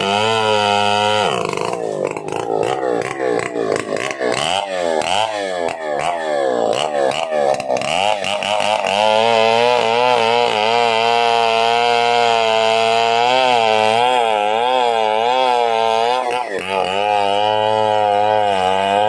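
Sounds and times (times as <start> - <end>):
chainsaw engine revving: 0.0 - 19.0.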